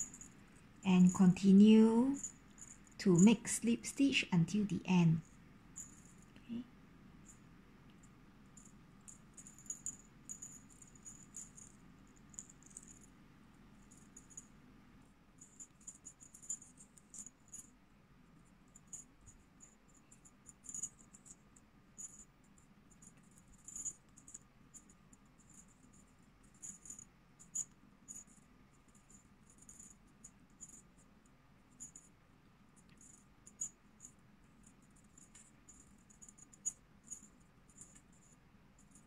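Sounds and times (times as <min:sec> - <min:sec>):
small jingle bell tinkling: 0:00.0 - 0:14.6, 0:15.3 - 0:39.0.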